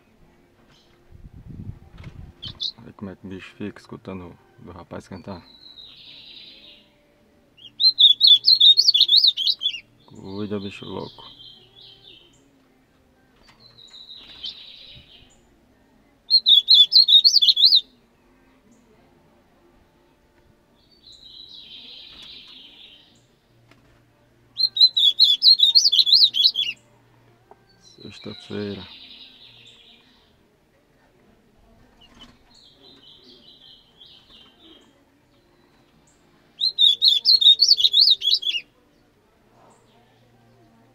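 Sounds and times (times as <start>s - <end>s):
songbird singing: 0.0s - 23.6s, 24.2s - 30.6s, 31.6s - 40.9s.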